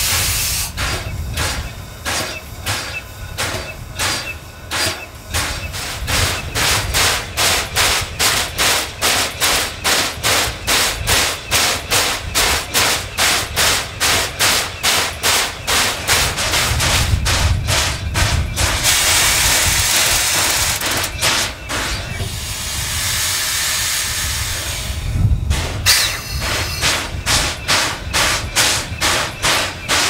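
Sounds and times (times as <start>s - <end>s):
steam locomotive exhaust chuffs: 0.0s - 30.0s.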